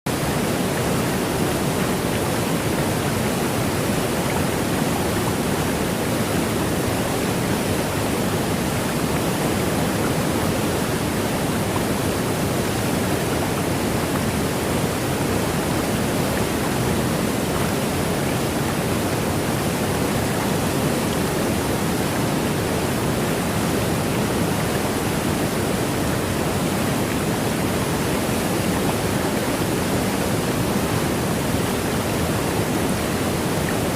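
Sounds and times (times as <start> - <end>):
indoor waterfall rushing: 0.1 - 33.9.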